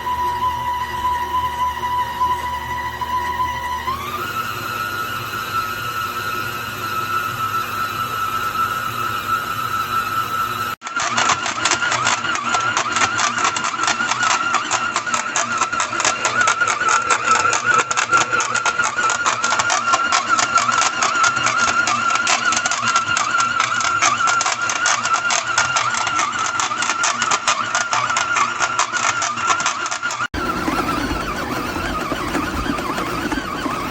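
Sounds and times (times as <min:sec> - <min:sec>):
mixer gearing rattle: 0:00.0 - 0:33.9
stand mixer motor whine: 0:00.0 - 0:33.9.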